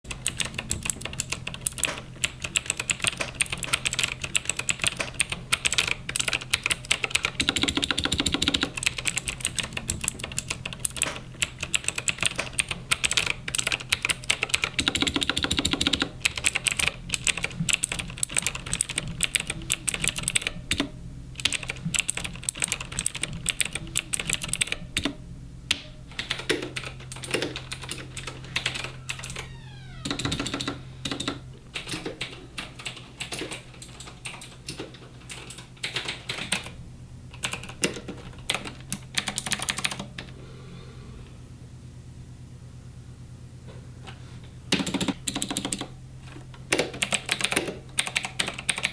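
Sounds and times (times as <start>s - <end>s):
rapid typing on keyboard: 0.1s - 25.2s, 26.1s - 40.1s, 44.8s - 45.9s, 46.7s - 48.9s
steady low hum: 0.1s - 48.9s.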